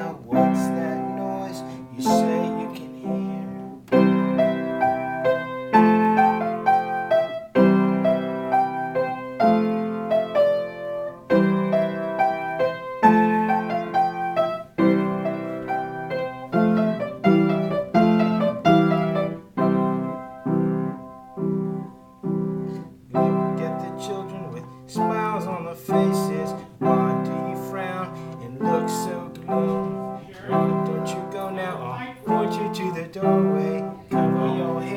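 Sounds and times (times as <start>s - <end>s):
piano chords and melody: 0.0s - 34.9s.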